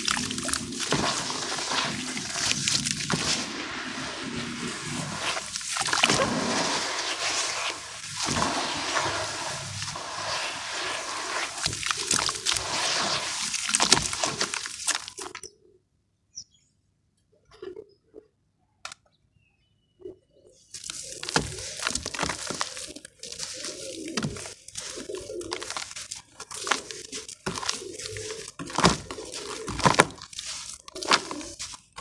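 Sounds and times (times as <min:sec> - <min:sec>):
crackle of crumbling chunks: 0:00.0 - 0:15.5, 0:20.8 - 0:32.0
hands sloshing wet charcoal: 0:00.0 - 0:15.5, 0:20.7 - 0:32.0.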